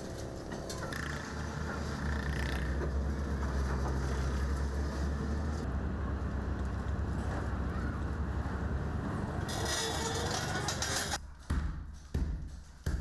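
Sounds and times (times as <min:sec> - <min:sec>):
diesel engine rumbling: 0:00.0 - 0:11.2.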